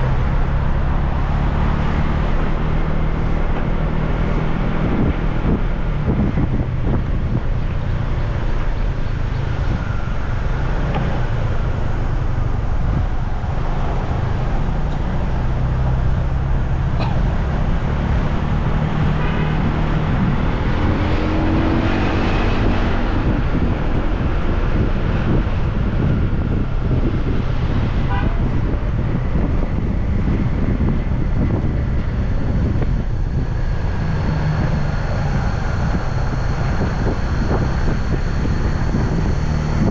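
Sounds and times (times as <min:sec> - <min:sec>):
motorbike engine hum: 0:00.0 - 0:39.9
vehicles passing: 0:00.0 - 0:39.9
wind and road noise: 0:00.0 - 0:39.9.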